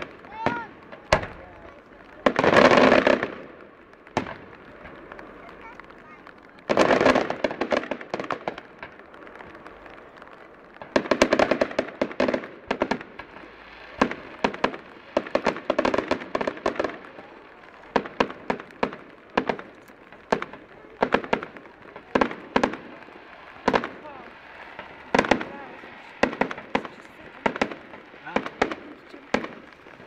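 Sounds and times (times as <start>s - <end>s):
fireworks crackling: 0.0s - 30.0s
fireworks cracks and bangs: 0.0s - 30.0s.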